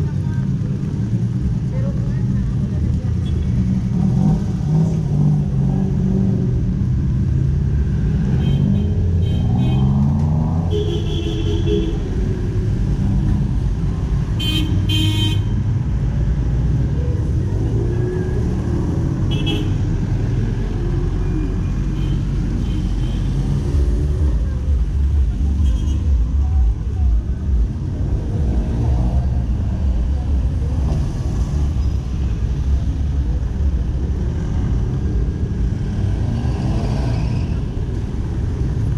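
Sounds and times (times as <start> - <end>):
vehicle engines running: 0.0 - 38.9.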